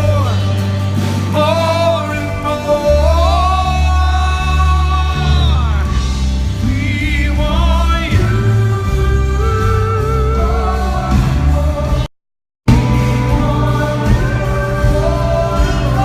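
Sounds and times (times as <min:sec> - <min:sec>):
band playing: 0:00.0 - 0:12.1, 0:12.7 - 0:16.0
moving bass line: 0:00.0 - 0:12.1, 0:12.7 - 0:16.0.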